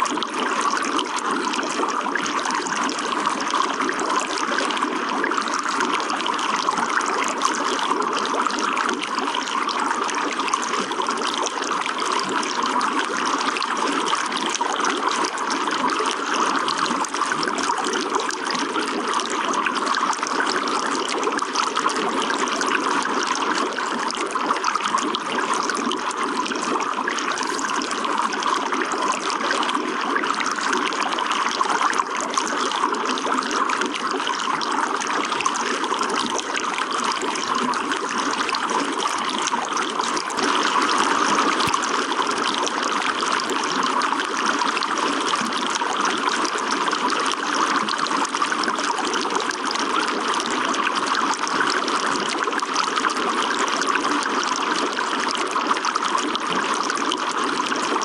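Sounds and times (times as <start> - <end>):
running water trickling: 0.1 - 50.3.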